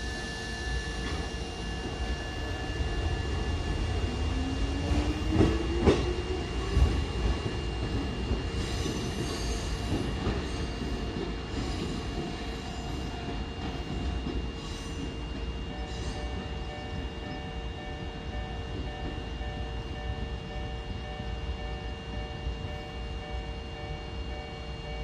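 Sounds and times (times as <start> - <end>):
train motor whine: 0.0 - 23.6
electric train rumble: 0.0 - 25.0.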